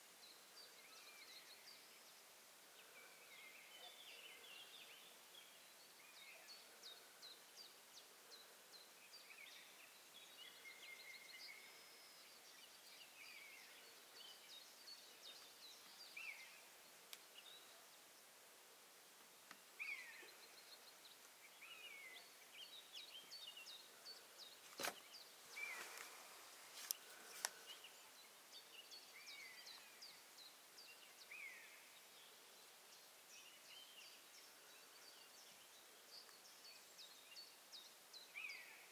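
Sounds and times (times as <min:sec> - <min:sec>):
quiet hiss: 0:00.0 - 0:38.9.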